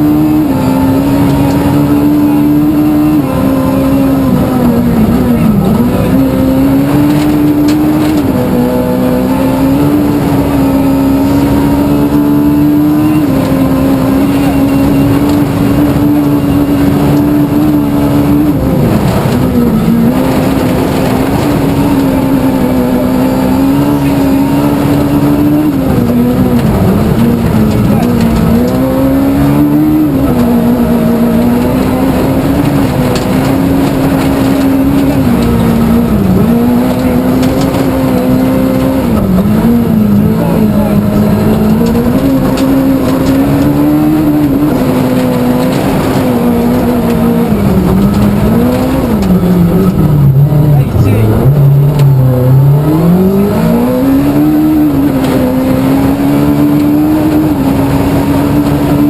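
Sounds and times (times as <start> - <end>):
rally car engine at high revs: 0.0 - 59.0.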